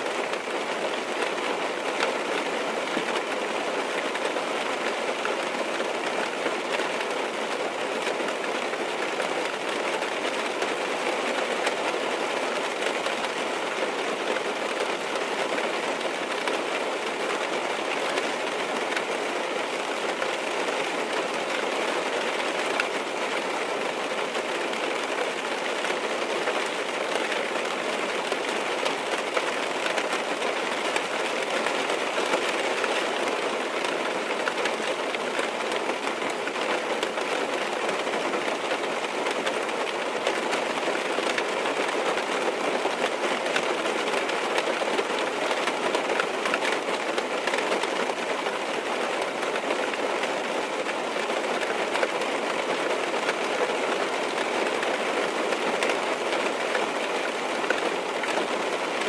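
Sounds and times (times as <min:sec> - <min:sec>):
rain on a car roof: 0:00.0 - 0:59.0.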